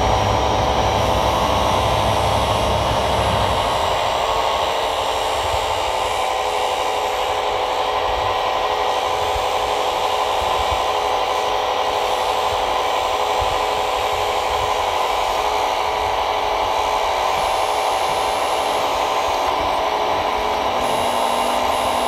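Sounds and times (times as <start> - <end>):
electric hydraulic pump whine: 0.0 - 22.0.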